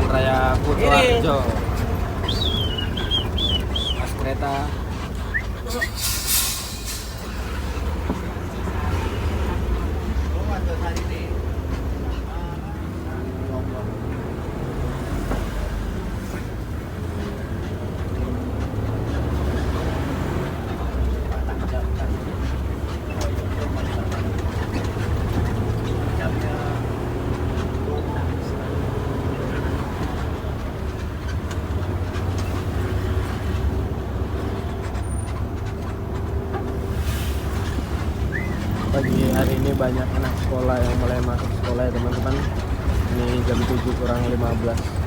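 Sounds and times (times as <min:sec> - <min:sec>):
bus interior rumble: 0:00.0 - 0:45.0
road noise: 0:00.0 - 0:45.0.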